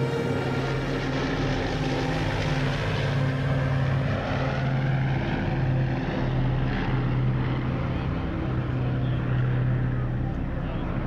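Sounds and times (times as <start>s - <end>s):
piston aircraft engines droning: 0.0s - 11.0s.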